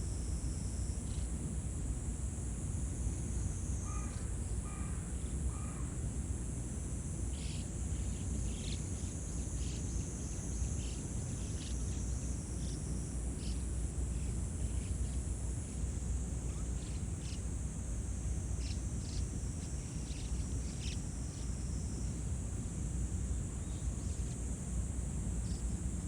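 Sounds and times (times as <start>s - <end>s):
crickets chorus: 0.0s - 26.0s.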